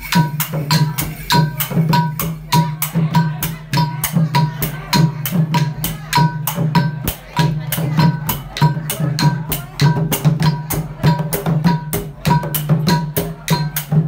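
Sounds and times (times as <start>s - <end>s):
drums: 0.0s - 14.0s
ringing hand percussion: 0.0s - 14.0s.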